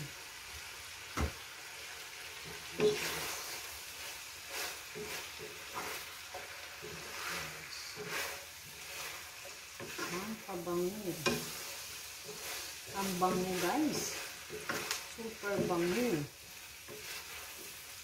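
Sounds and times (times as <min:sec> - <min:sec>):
food sizzling in frying pan: 0:00.0 - 0:18.0
wooden spatula scraping pan: 0:02.3 - 0:18.0.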